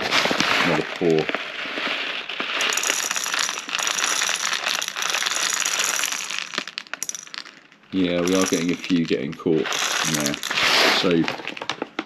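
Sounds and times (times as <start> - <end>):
plastic pellets rattling: 0.0 - 12.0.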